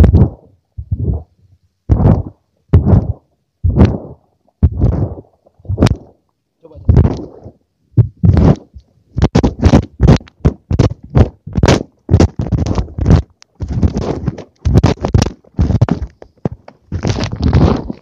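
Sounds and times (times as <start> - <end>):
digging strokes scraping and thudding: 0.0 - 1.3, 1.9 - 6.2, 6.8 - 18.0.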